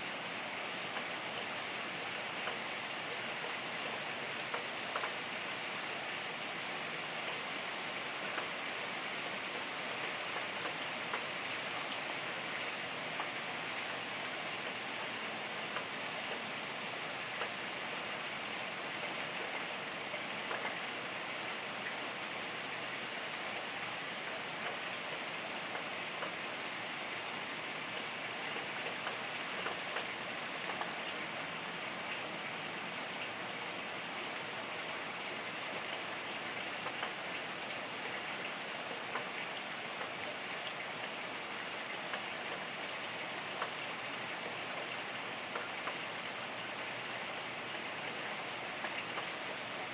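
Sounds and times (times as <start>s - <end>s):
rain hissing: 0.0s - 49.9s
raindrops ticking: 3.4s - 5.3s, 8.2s - 16.5s, 17.3s - 18.0s, 19.0s - 23.6s, 24.2s - 49.9s.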